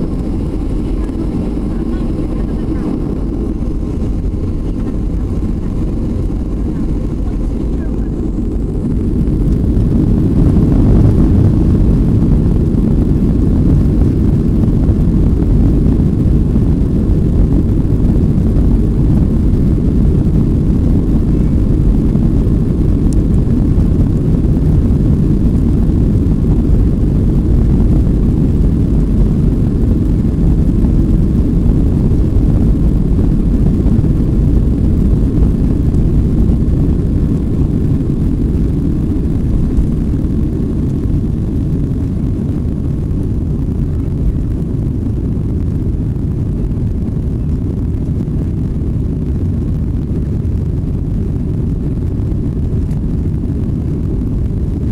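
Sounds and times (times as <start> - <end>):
jet engines rumbling in cabin: 0.0 - 54.9.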